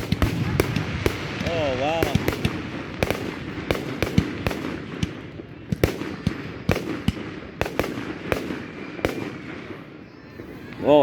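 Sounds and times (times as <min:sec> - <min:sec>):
continuous rumble: 0:00.0 - 0:10.5
fireworks bangs and pops: 0:00.0 - 0:11.0.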